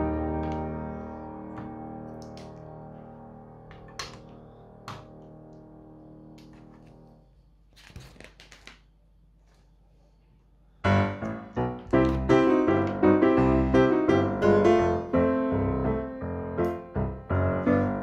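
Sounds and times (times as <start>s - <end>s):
piano music: 0.0s - 7.3s, 10.8s - 18.0s.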